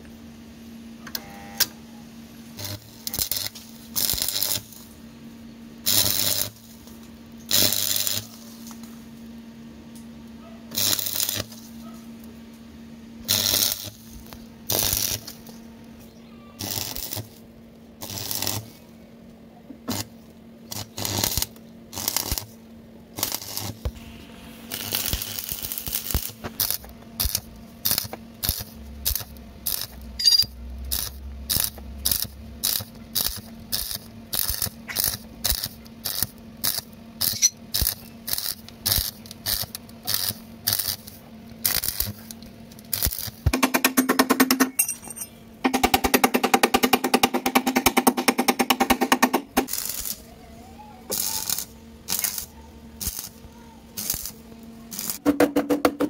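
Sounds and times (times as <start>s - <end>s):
steady low hum: 0.0s - 56.0s
arc welder crackling: 2.4s - 5.0s, 5.8s - 56.0s.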